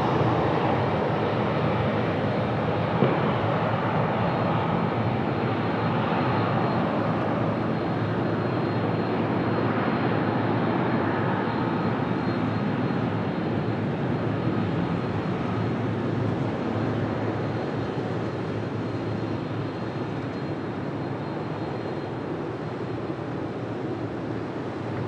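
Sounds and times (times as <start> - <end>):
jet engines rushing with high whine: 0.0 - 25.0.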